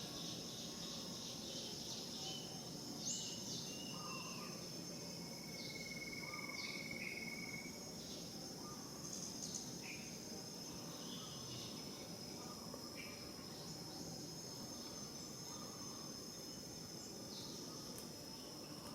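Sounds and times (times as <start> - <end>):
high-pitched insect drone: 0.0 - 18.9
insect pulsed trill: 0.0 - 18.9
short insect chirps: 0.0 - 18.9.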